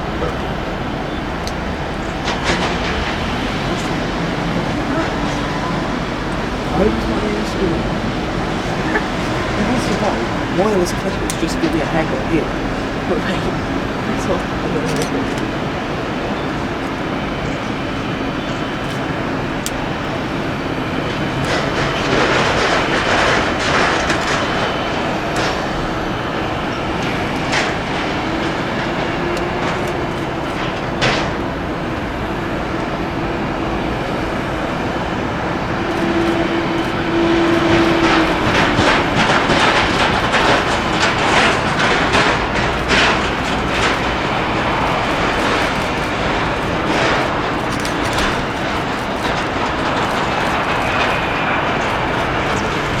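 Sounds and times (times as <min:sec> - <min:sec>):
train rumbling past: 0:00.0 - 0:53.0
train wheels clacking: 0:00.0 - 0:53.0.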